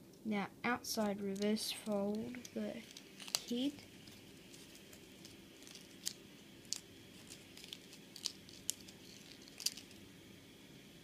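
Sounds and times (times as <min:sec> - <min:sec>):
faint steady hum: 0:00.0 - 0:11.0
paper crinkling: 0:01.0 - 0:10.0.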